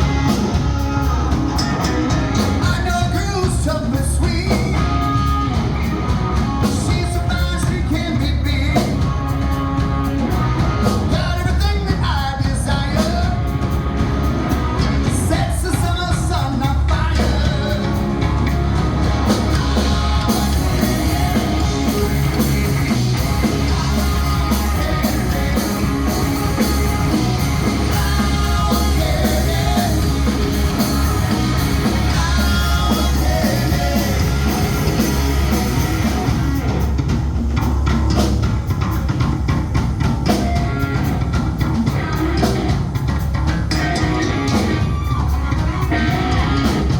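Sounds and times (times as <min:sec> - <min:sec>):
rock song with singing: 0:00.0 - 0:46.9.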